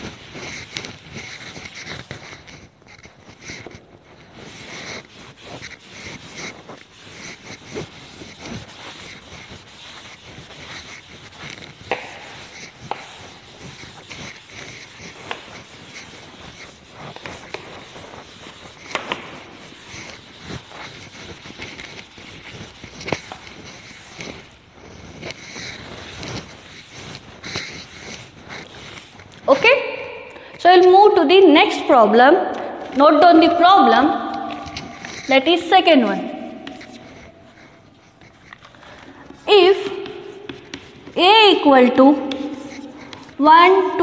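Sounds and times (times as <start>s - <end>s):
duster scraping chalkboard: 0.0s - 44.0s.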